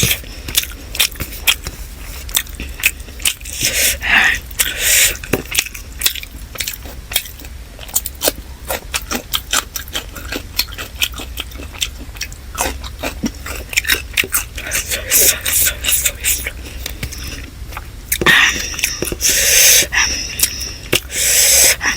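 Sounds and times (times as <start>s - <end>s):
wet chewing mouth clicks: 0.0s - 21.9s.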